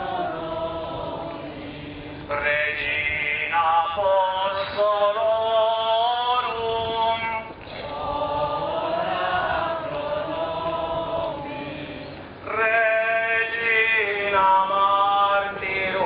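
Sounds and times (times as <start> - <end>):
crowd singing a hymn: 0.0 - 16.0
lead voice singing: 0.0 - 16.0.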